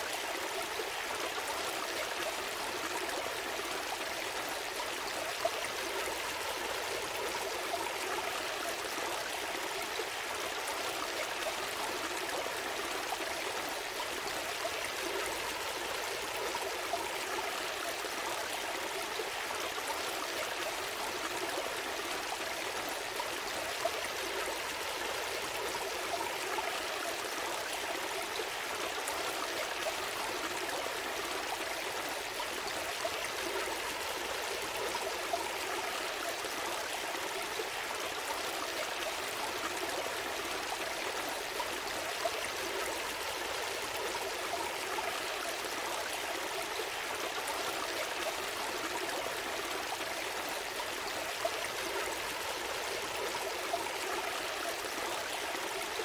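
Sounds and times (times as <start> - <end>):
small stream babbling over stones: 0.0 - 56.0.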